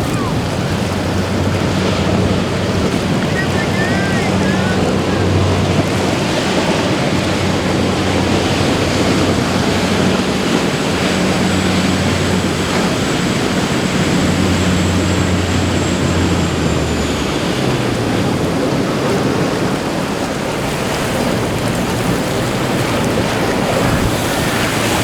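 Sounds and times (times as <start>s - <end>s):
boat engines humming: 0.0s - 25.0s
waves: 0.0s - 25.0s
wind: 0.0s - 25.0s.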